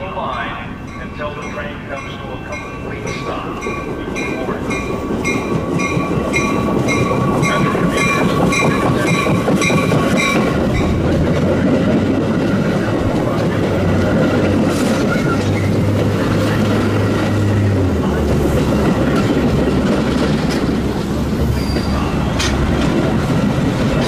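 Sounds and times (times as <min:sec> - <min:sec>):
diesel train rumbling: 0:00.0 - 0:24.0
wheels clicking over rails: 0:03.0 - 0:24.0.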